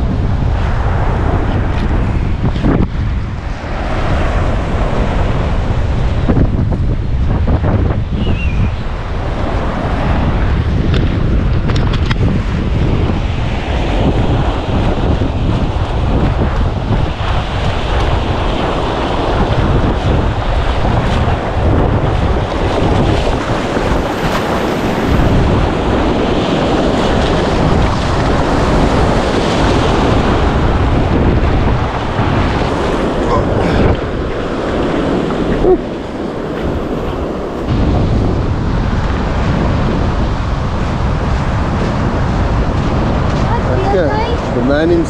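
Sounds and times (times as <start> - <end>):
surf breaking on beach: 0.0 - 45.0
wind buffeting microphone: 0.0 - 45.0.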